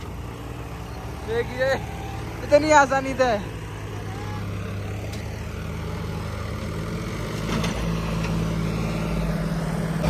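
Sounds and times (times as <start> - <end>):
heavy diesel tractor engines: 0.0 - 10.0.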